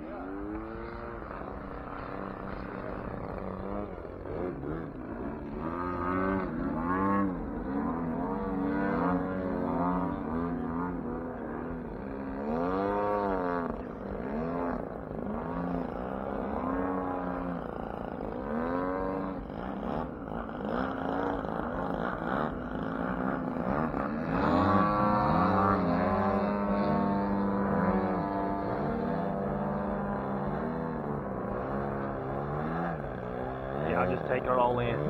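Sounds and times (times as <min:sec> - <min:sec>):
model airplane engines buzzing: 0:00.0 - 0:35.0.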